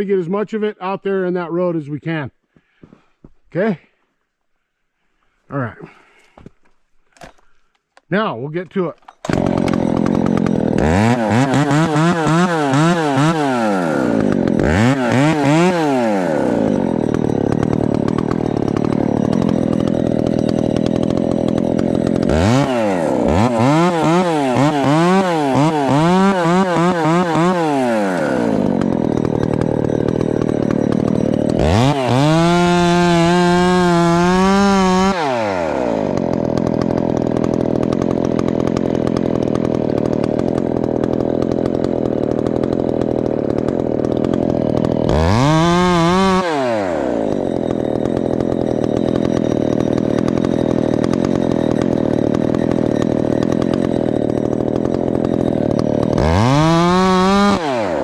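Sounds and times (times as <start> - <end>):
chainsaw cutting wood: 6.1 - 8.1, 8.7 - 58.0.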